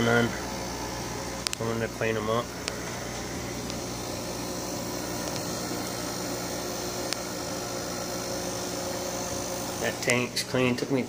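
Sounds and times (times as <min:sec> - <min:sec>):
aquarium equipment hissing: 0:00.0 - 0:11.0
steady electrical hum: 0:00.0 - 0:11.0.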